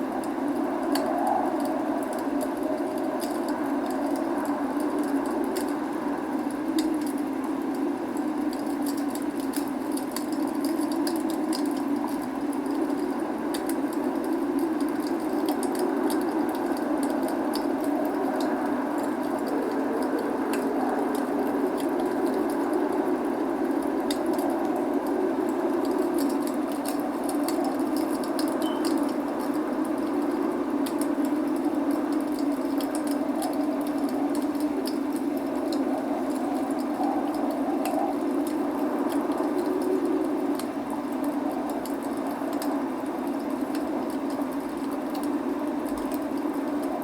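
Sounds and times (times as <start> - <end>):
fire crackling and popping: 0.0 - 47.0
rain hiss: 0.0 - 47.0.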